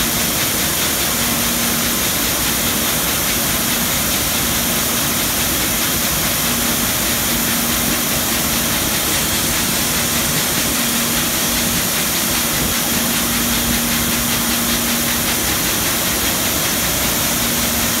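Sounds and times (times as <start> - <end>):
spinning machine hum and hiss: 0.0 - 18.0.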